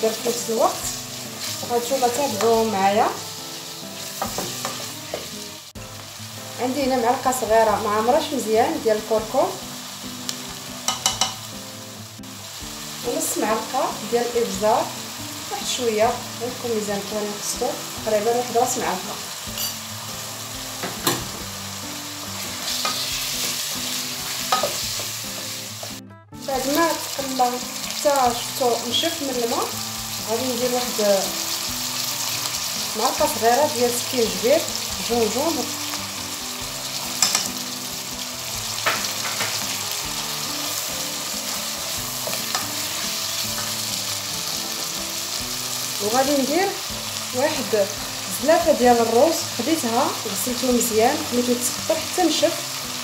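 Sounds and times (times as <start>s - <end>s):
onion and chicken sizzling in oil: 0.0s - 53.0s.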